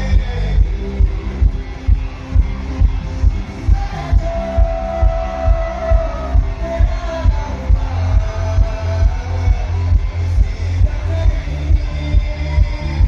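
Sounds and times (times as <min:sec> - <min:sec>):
heavy bass beat: 0:00.0 - 0:13.0.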